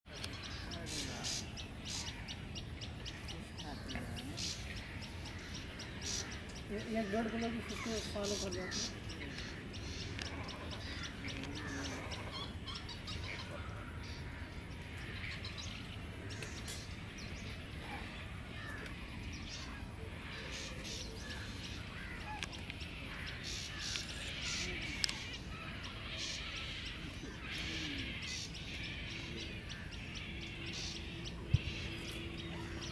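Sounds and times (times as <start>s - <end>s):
wild birds calling and chirping: 0.1s - 32.9s.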